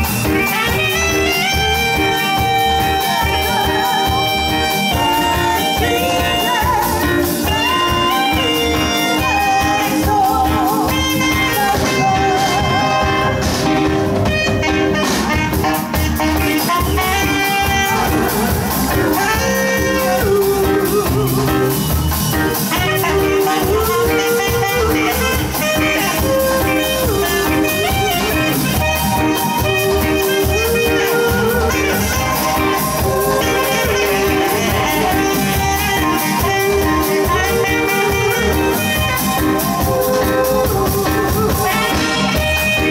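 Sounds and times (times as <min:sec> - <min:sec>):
drums: 0:00.0 - 0:42.9
live band music: 0:00.0 - 0:42.9
saxophone melody: 0:00.0 - 0:42.9.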